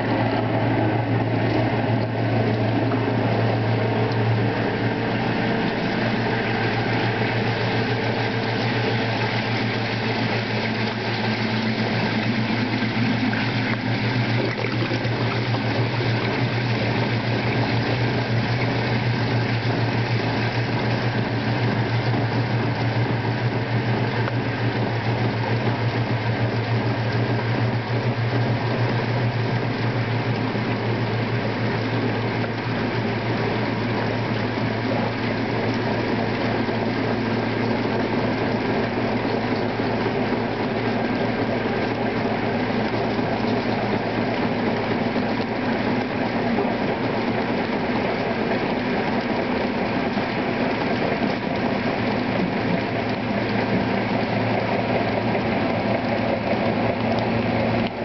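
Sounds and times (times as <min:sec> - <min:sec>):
washing machine motor humming: 0:00.0 - 0:58.0
water pumping out: 0:00.0 - 0:58.0.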